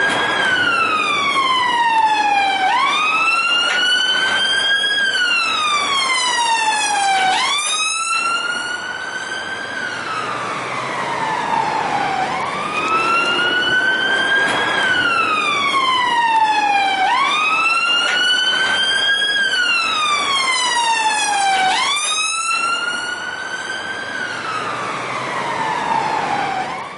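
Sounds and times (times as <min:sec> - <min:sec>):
police siren wailing: 0:00.0 - 0:26.9.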